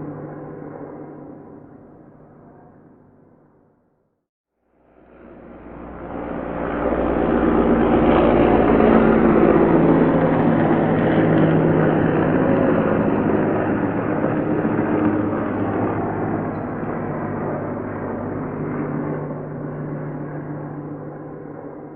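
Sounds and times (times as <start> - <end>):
helicopter engines and rotors drone: 0.0 - 3.8, 4.7 - 21.9.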